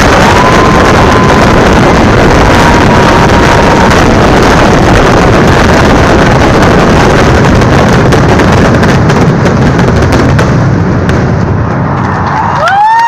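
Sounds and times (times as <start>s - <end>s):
fireworks barrage: 0.0s - 13.0s.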